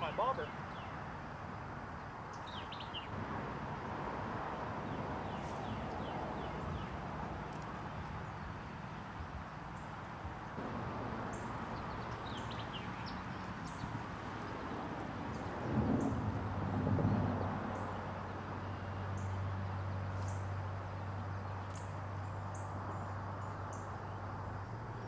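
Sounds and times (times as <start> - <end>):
wind rumble on microphone: 1.6 - 25.0.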